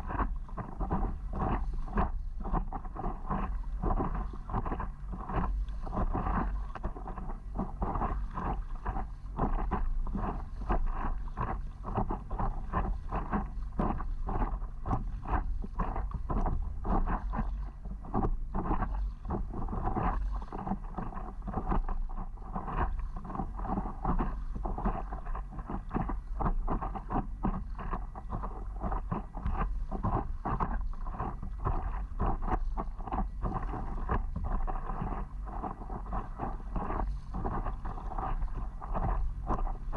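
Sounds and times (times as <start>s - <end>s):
water splashing against paddleboard: 0.0s - 39.9s
wind rumble on microphone: 0.0s - 39.9s.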